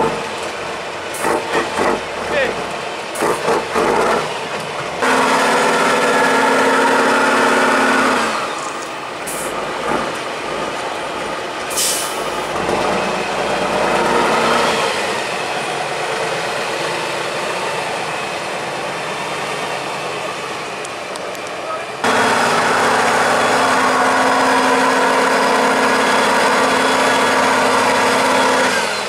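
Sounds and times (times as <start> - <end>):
diesel truck engine under load: 0.0 - 29.0.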